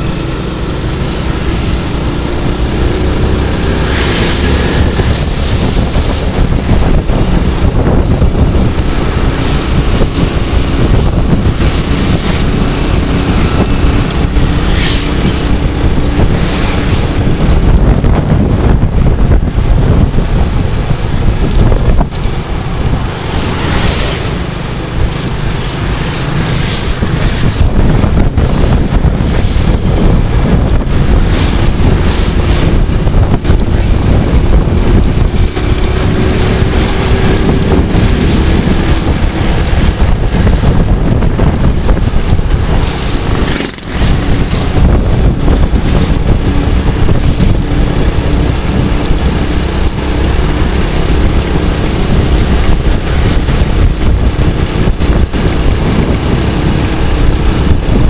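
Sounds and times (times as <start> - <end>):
vehicle engine and tyre noise: 0.0 - 58.0
wind buffeting microphone: 0.0 - 58.0.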